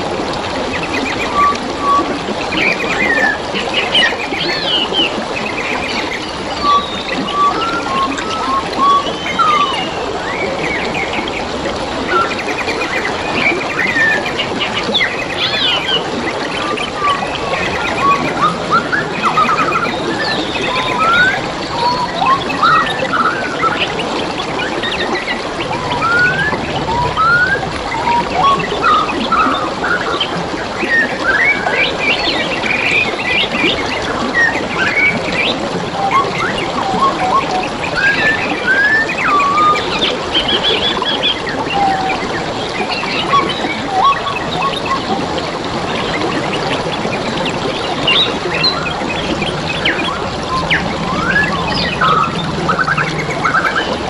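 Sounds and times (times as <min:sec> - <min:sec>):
flowing water babbling: 0:00.0 - 0:54.0
stream trickling: 0:00.0 - 0:54.0
forest birds singing: 0:00.7 - 0:45.2, 0:46.0 - 0:53.9.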